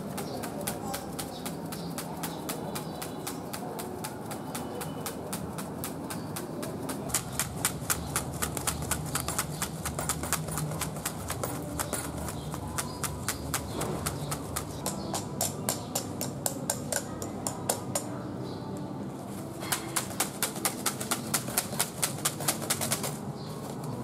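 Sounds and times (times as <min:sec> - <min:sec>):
hand fan swishing: 0:00.0 - 0:18.0, 0:19.2 - 0:24.0.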